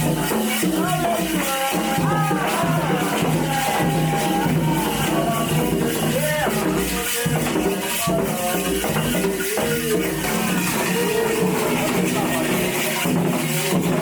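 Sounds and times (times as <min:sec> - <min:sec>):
voices singing a chant: 0:00.0 - 0:14.0.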